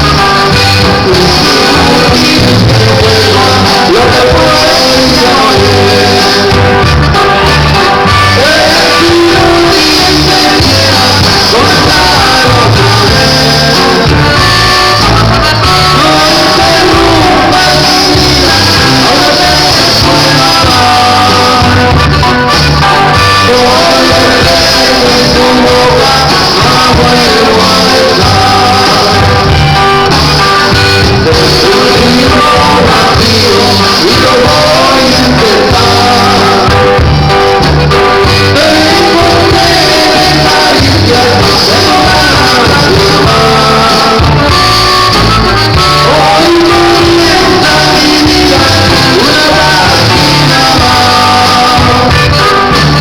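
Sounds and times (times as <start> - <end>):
band music with singing: 0.0 - 53.0.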